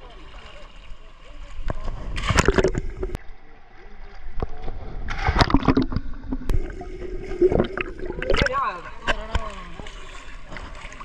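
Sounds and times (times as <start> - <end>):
underwater sloshing and bubbling: 0.0 - 11.0
water splashing: 0.0 - 11.0.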